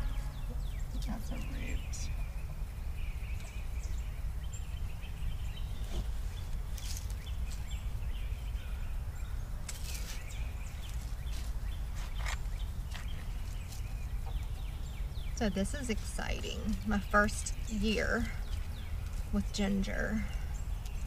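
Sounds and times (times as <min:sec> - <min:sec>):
birds calling: 0:00.0 - 0:21.0
steady low rumble: 0:00.0 - 0:21.0.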